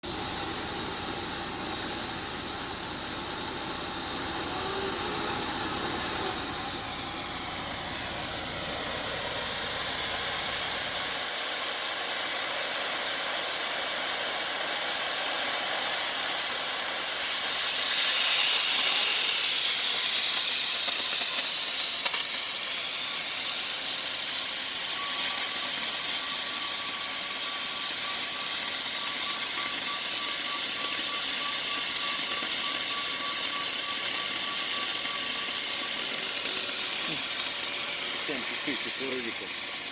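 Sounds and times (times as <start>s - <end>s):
gas cutting torch hissing: 0.0s - 39.9s.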